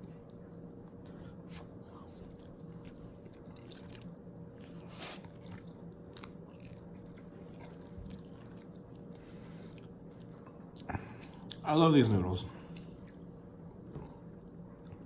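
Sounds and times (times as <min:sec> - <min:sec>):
person chewing noodles: 0:00.0 - 0:11.6, 0:12.6 - 0:15.0
steady low hum: 0:00.0 - 0:15.0.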